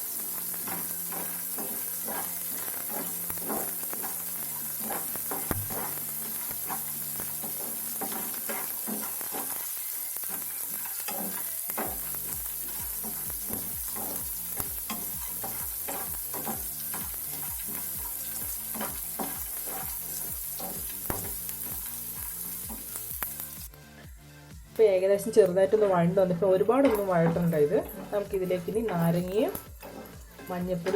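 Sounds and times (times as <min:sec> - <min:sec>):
spatula stirring and scraping pan: 0:00.0 - 0:23.6, 0:25.7 - 0:30.9
onion sizzling in hot oil: 0:00.0 - 0:23.8, 0:24.8 - 0:30.9.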